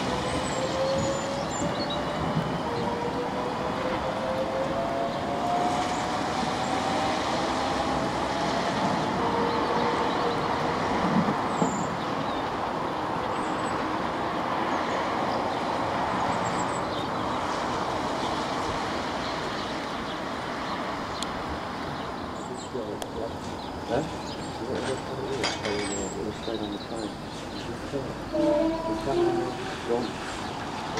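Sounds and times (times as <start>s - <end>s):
wheels rumbling on rail: 0.0s - 30.9s.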